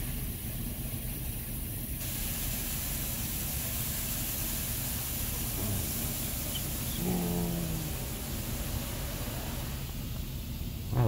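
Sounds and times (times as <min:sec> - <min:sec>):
water spray hissing on van: 0:00.0 - 0:11.0.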